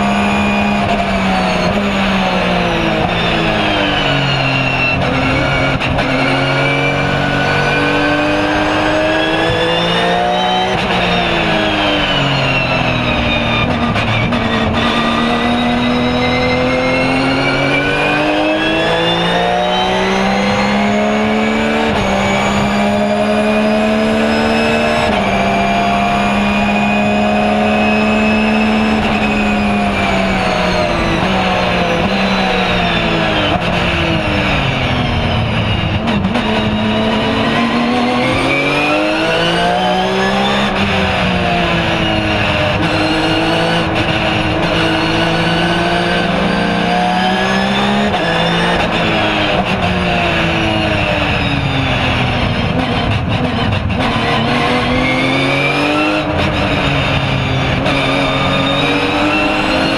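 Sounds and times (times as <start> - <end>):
race car engine from cockpit: 0.0 - 59.9.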